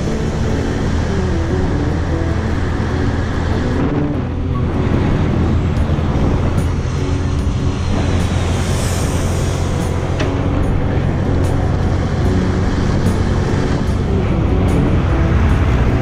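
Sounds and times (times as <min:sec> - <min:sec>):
motorbike engine cruising: 0:00.0 - 0:16.0
wind rushing over microphone: 0:00.0 - 0:16.0.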